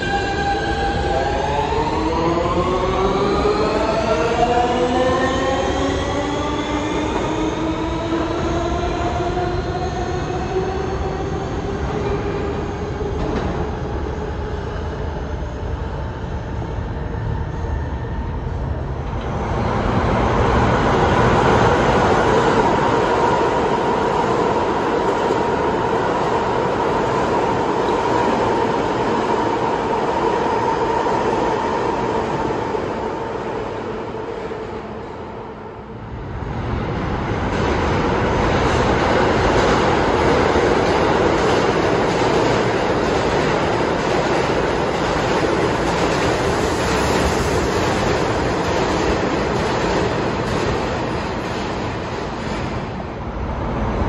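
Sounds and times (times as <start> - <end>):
express train rumbling past: 0.0 - 54.0.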